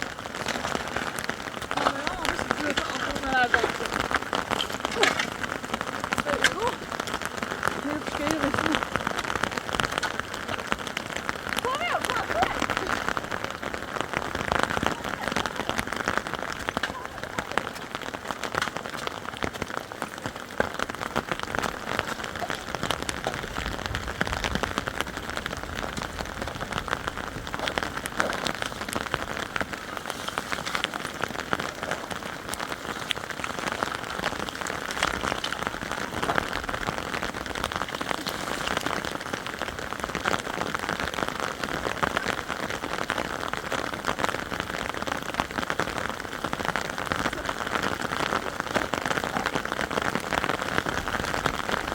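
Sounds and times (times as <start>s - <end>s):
heavy rain falling: 0.0s - 51.9s
raindrops hitting surfaces: 0.0s - 51.9s.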